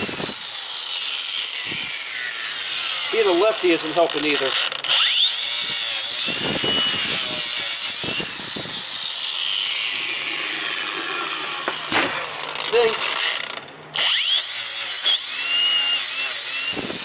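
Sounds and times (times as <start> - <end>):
grinder scraping metal: 0.0 - 17.0.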